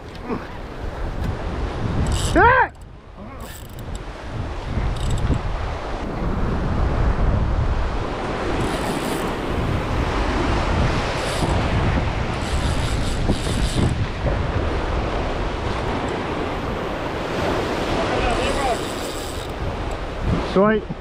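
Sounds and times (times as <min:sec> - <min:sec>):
wind buffeting microphone: 0:00.0 - 0:21.0
waves washing over rocks: 0:04.1 - 0:21.0.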